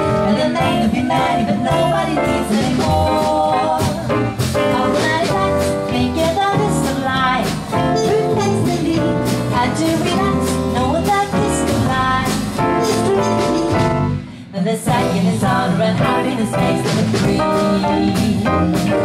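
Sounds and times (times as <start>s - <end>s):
two women singing: 0.0s - 13.8s, 14.4s - 19.0s
percussion beat: 0.0s - 14.0s, 14.9s - 19.0s
guitar: 0.0s - 19.0s
piano: 0.0s - 19.0s
upright bass: 0.0s - 19.0s.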